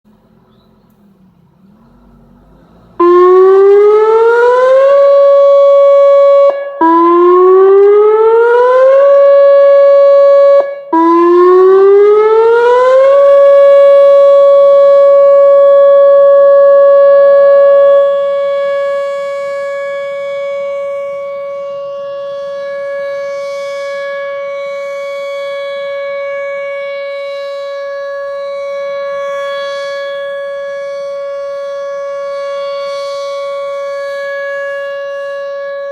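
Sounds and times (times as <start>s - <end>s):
warning siren winding up: 3.0s - 35.9s.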